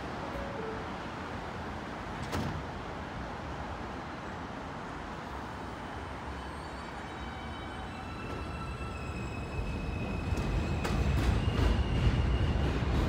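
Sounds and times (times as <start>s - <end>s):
subway doors sliding shut: 0.0s - 4.2s, 5.4s - 13.0s
train idling in station: 0.0s - 13.0s.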